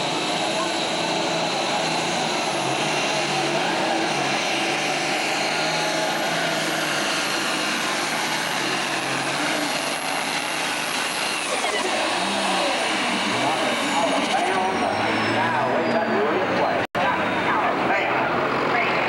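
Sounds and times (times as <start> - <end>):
turbo whine: 0.0 - 16.7
diesel engine roaring: 0.0 - 19.0.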